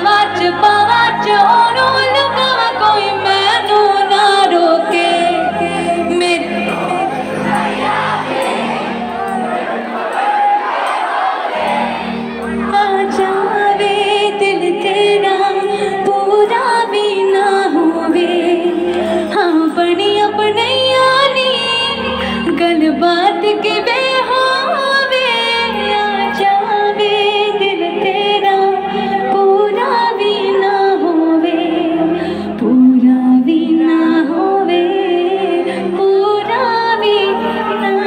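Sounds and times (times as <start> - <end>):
woman singing: 0.0 - 7.9, 12.5 - 38.0.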